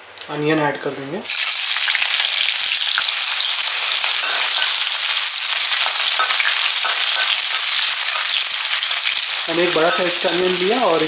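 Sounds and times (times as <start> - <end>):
onion sizzling in oil: 1.2 - 11.0.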